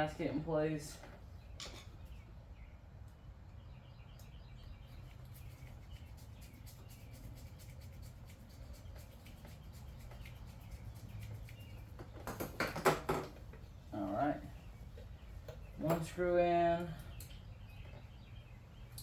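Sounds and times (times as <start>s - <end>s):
bird chirping: 1.2s - 19.0s.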